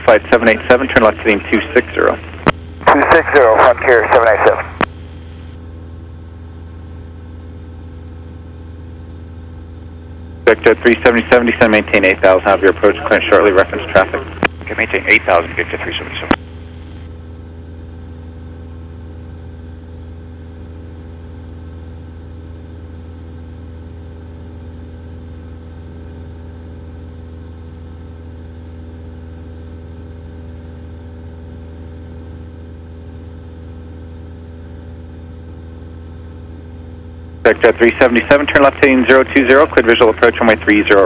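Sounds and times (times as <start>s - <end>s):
propeller plane engine droning: 0.0s - 41.0s.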